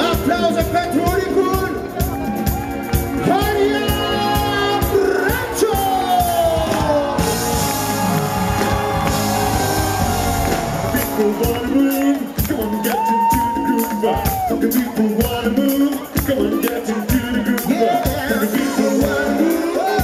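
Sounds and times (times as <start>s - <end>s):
funk band playing: 0.0s - 20.0s
crowd shouting and whooping: 1.4s - 20.0s
person singing: 3.2s - 20.0s.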